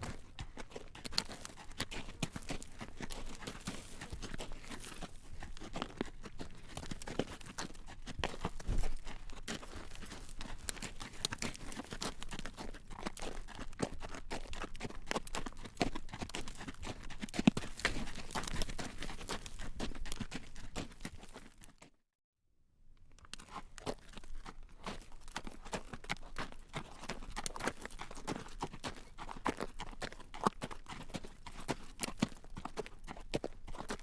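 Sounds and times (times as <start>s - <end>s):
horse hooves clip-clopping on road: 0.0s - 21.8s, 23.4s - 34.0s.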